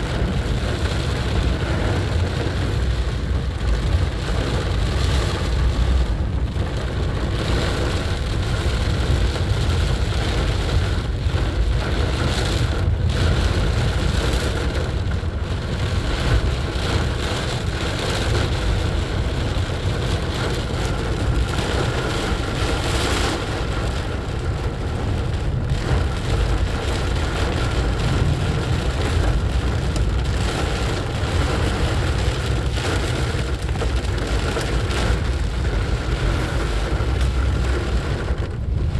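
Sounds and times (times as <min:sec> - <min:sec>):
car engine and road rumble: 0:00.0 - 0:38.9
rain on car: 0:00.0 - 0:38.9.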